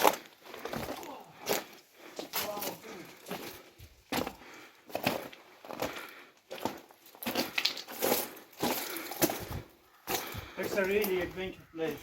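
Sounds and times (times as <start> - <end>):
footsteps crunching on gravel: 0.0 - 12.0.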